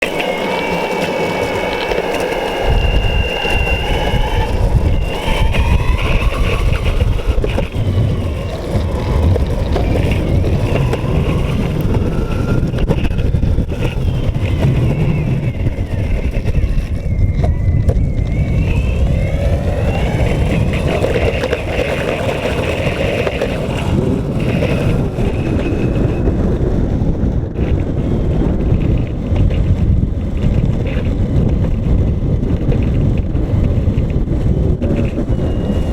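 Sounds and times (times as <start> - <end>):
electric skateboard drive whine: 0.0 - 35.9
low rumble: 0.0 - 35.9.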